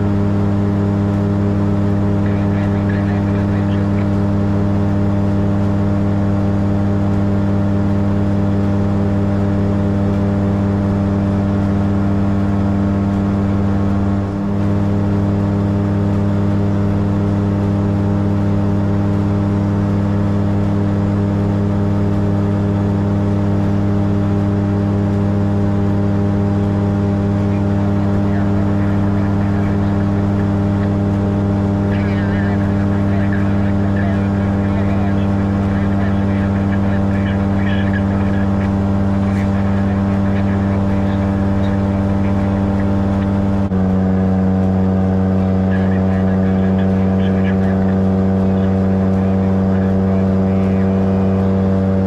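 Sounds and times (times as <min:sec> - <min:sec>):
light aircraft engine and propeller: 0:00.0 - 0:52.0.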